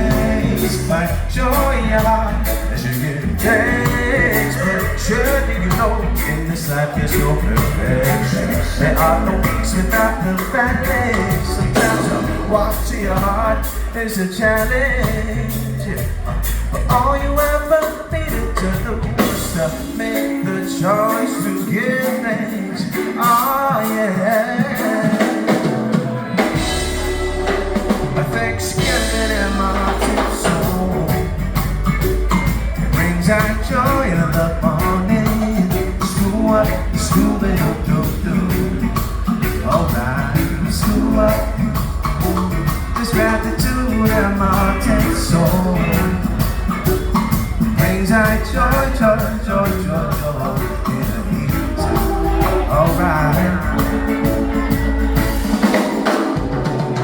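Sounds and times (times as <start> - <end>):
heavy bass low end: 0.0 - 20.5, 26.6 - 55.7
live band playing: 0.0 - 57.0.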